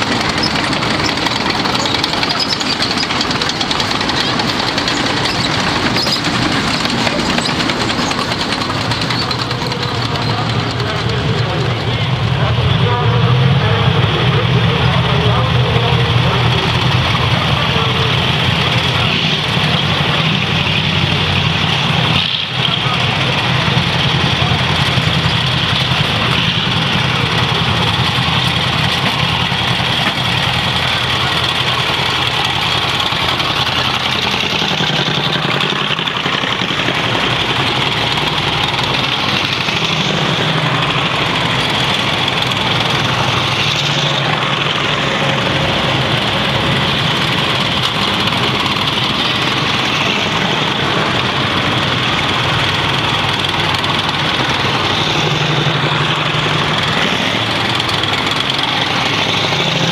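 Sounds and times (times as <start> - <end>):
tracked vehicle engines running: 0.0 - 59.9.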